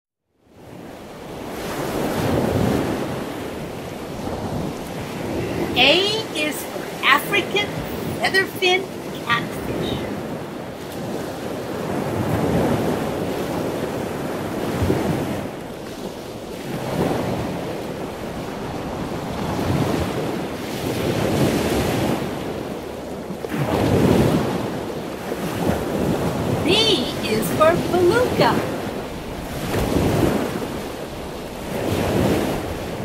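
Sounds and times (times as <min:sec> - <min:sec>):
ocean surf: 0:00.5 - 0:33.0.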